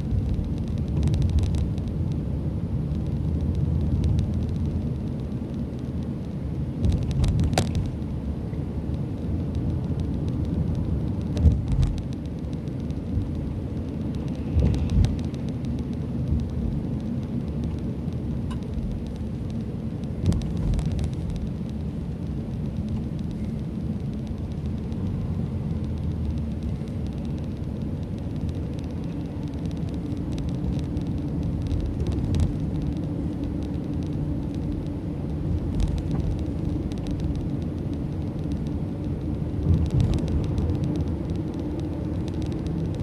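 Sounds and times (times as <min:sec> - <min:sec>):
car road noise rumble: 0:00.0 - 0:43.0.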